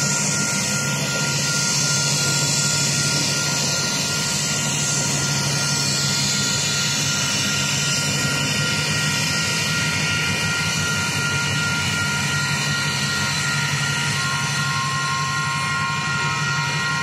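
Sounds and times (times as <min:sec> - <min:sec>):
crossing warning bell ringing: 0:00.0 - 0:17.0
diesel locomotives engines running: 0:00.0 - 0:17.0.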